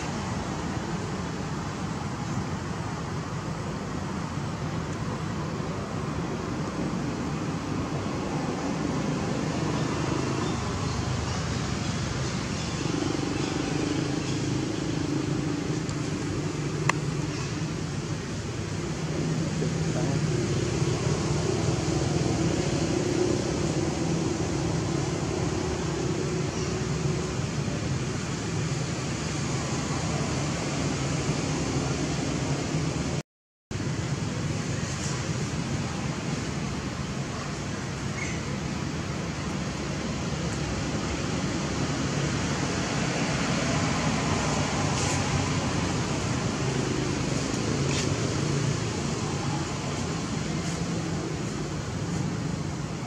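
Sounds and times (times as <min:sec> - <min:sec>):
background hiss: 0:00.0 - 0:33.2, 0:33.8 - 0:53.0.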